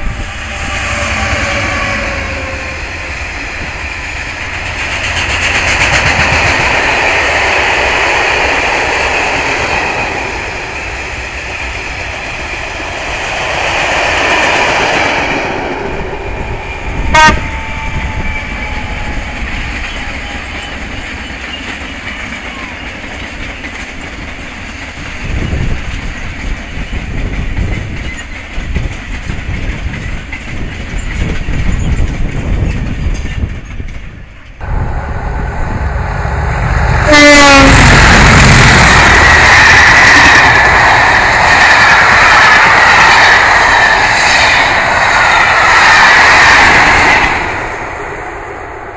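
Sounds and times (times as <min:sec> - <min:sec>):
diesel train passing at speed: 0:00.0 - 0:48.9
freight train rumbling past: 0:00.0 - 0:48.9.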